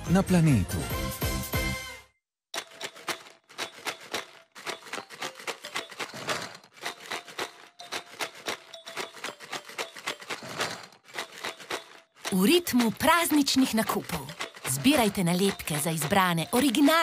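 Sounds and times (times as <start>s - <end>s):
plastic toy bricks clicking: 2.6s - 17.0s.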